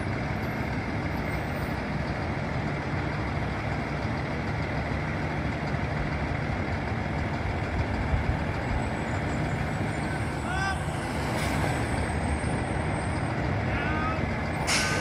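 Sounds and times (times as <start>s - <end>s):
diesel trucks idling: 0.0s - 15.0s.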